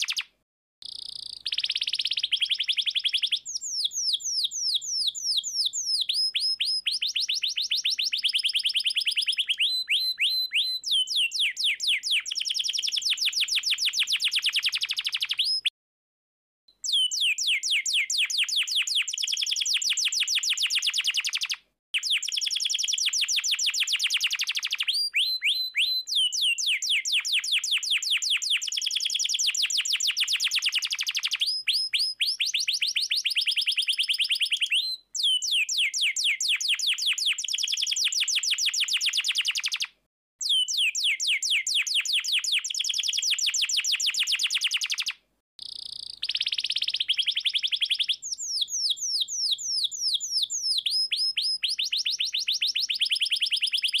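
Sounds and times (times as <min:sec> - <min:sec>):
canary singing: 0:00.0 - 0:15.7, 0:16.8 - 0:54.0.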